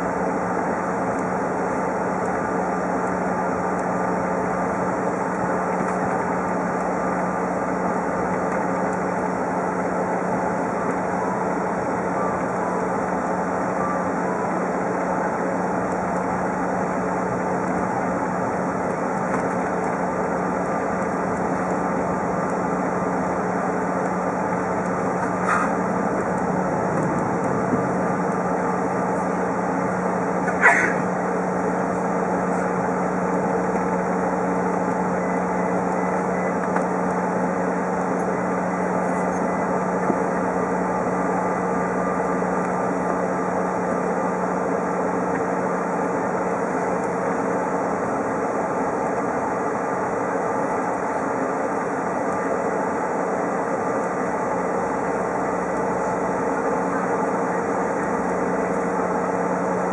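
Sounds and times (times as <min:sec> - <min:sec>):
jet engines idling in cabin: 0:00.0 - 0:59.9.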